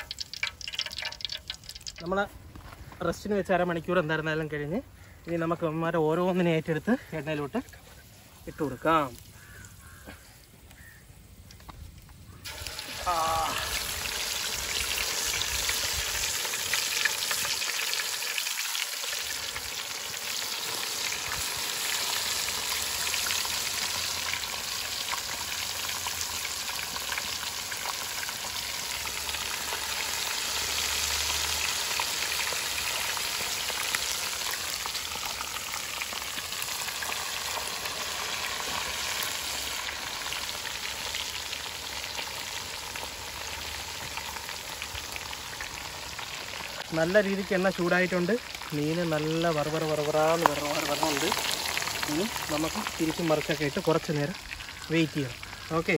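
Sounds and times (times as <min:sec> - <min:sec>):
fish sizzling in hot oil: 0:00.0 - 0:02.3, 0:05.6 - 0:10.0, 0:11.7 - 0:55.9.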